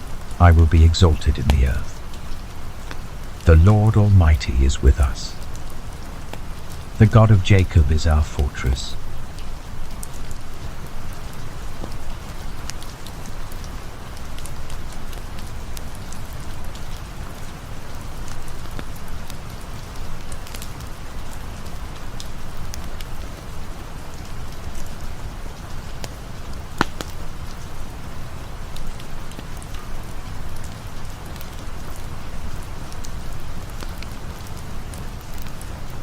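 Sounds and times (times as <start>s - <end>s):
steady rain falling: 0.0s - 36.0s
campfire crackling and popping: 4.3s - 17.4s, 18.2s - 36.0s.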